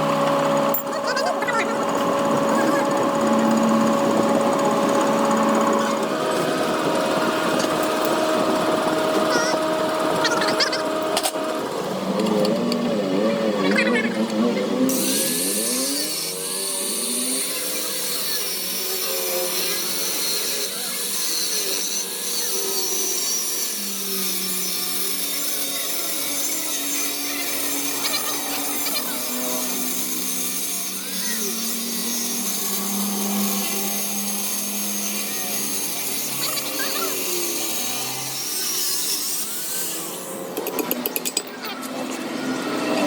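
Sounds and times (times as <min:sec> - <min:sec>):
power tool grinding metal: 0:00.0 - 0:43.0.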